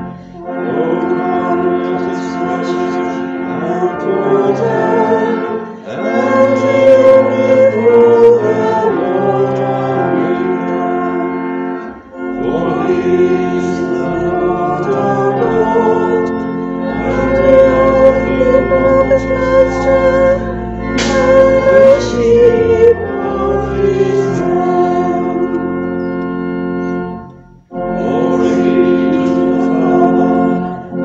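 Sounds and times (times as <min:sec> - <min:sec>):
church organ chords: 0:00.0 - 0:31.0
congregation singing: 0:00.0 - 0:31.0.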